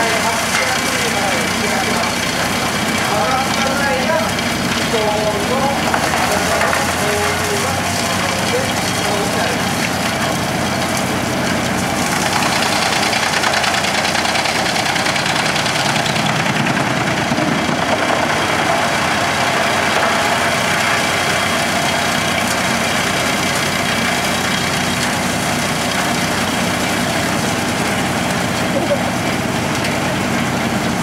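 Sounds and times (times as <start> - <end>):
wood chipper chipping logs: 0.0 - 31.0.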